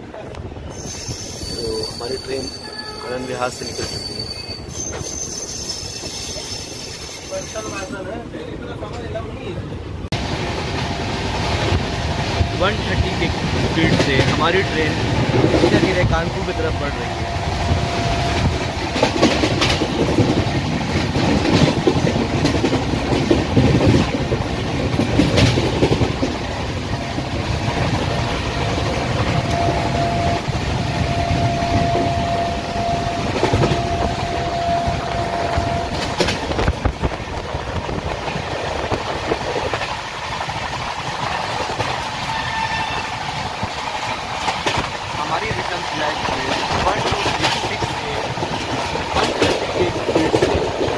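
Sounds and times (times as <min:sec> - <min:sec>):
train rumble: 0:00.0 - 0:50.9.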